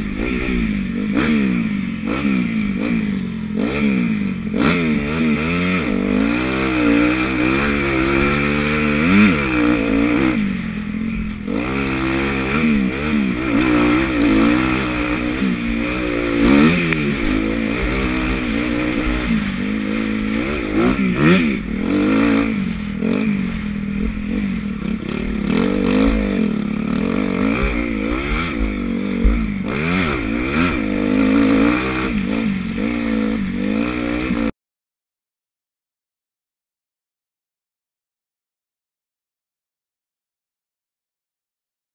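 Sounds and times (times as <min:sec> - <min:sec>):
motorbike engine revving: 0:00.0 - 0:34.5.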